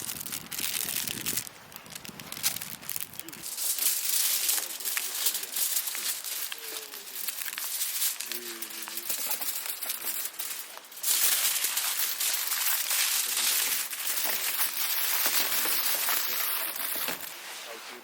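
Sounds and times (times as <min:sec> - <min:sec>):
loud steady hiss: 0:00.0 - 0:18.0
wrapping crinkling and rustling: 0:00.0 - 0:18.0.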